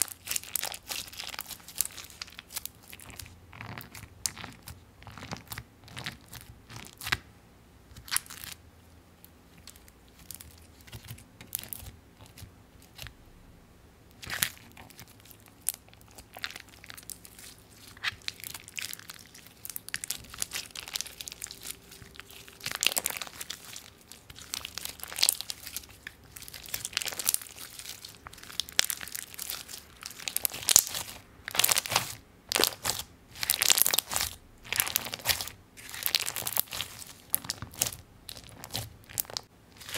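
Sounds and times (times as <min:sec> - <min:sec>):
slime crackling and crunching: 0:00.0 - 0:07.2, 0:07.9 - 0:08.6, 0:14.1 - 0:39.9.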